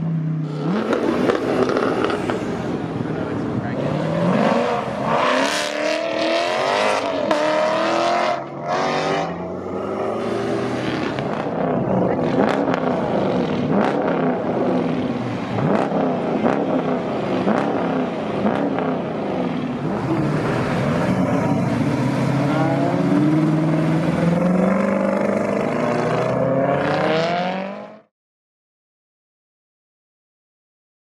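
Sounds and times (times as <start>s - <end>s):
car engine accelerating: 0.0s - 28.1s
car engines revving: 0.0s - 28.1s.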